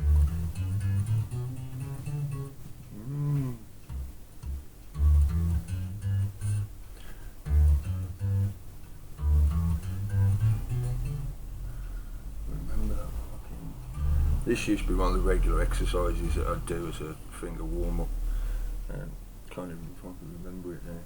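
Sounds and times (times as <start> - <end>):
plucked electric bass notes: 0.0 - 6.8, 7.4 - 11.9, 12.5 - 18.4.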